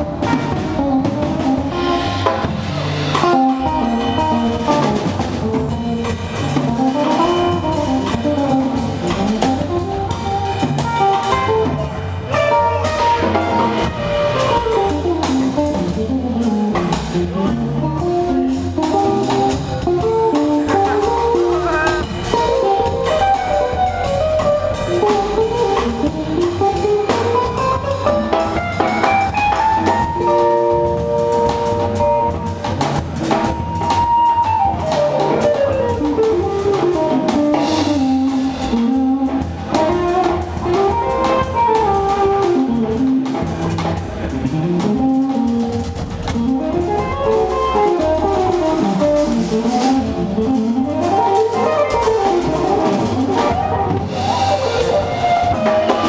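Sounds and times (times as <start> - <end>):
jazz combo playing: 0.0 - 56.0.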